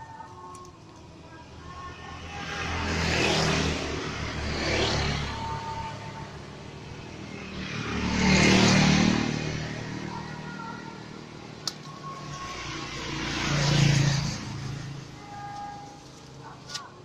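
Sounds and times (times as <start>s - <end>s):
vehicles passing by: 0.0s - 17.0s.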